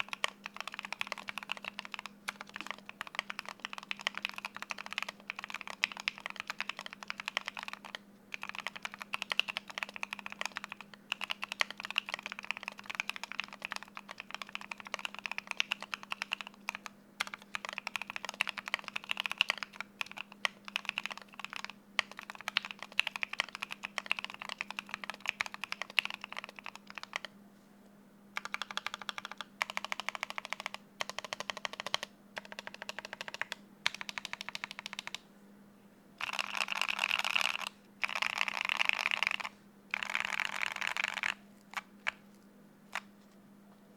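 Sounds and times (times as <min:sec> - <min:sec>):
typing on mechanical keyboard: 0:00.0 - 0:27.3, 0:28.4 - 0:35.2, 0:36.2 - 0:42.2.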